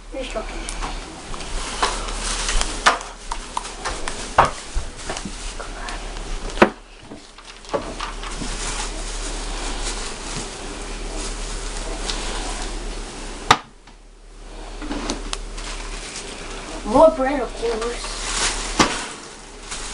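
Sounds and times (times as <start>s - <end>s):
steady hiss: 0.0s - 19.9s.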